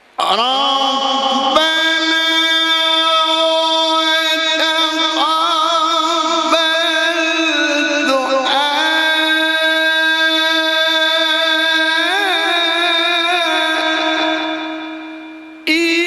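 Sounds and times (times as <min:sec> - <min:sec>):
man reciting in long notes: 0:00.0 - 0:16.0.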